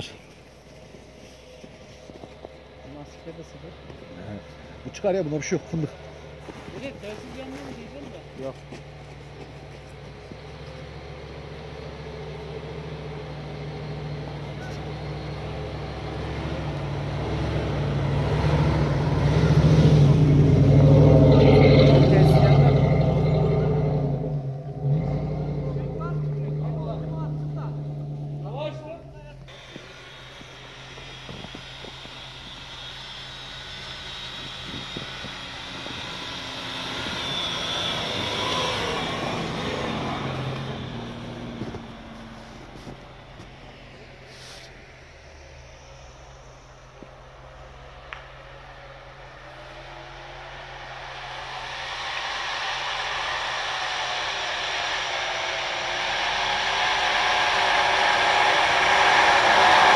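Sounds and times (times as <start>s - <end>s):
off-road vehicle engine under load: 0.0s - 59.9s.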